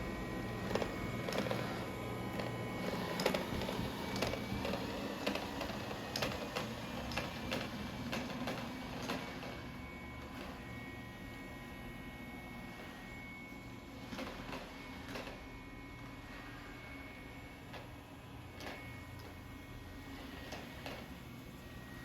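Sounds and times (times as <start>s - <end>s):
small machine running: 0.0s - 22.0s.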